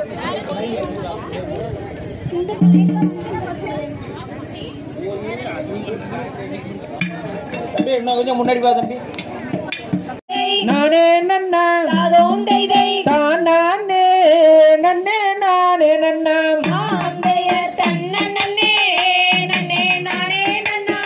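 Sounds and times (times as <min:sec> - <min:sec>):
percussion: 0:00.0 - 0:04.8, 0:05.4 - 0:21.0.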